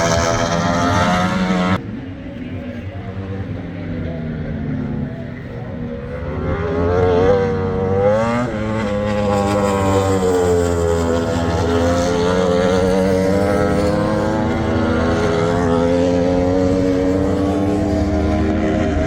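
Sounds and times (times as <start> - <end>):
motorbike engines at high revs: 0.0 - 1.8, 3.2 - 19.0.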